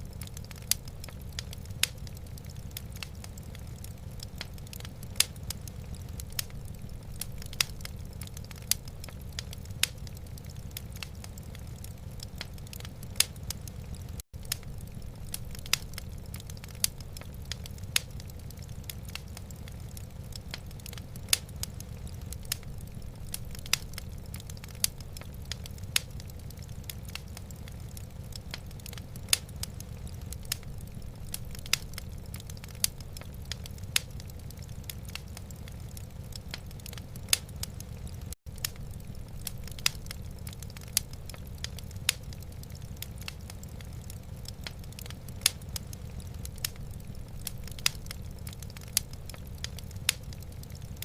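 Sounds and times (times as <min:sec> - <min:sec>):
low rumble of fire: 0:00.0 - 0:51.0
wood fire crackling pops: 0:00.0 - 0:51.0.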